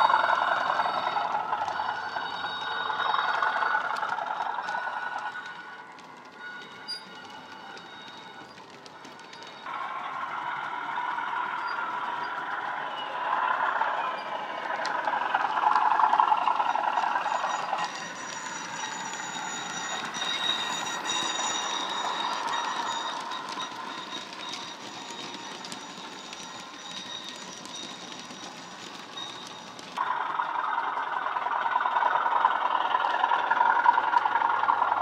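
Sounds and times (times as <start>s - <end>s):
model train diesel engine sound: 0.0s - 35.0s
thin high steady tones: 0.0s - 35.0s.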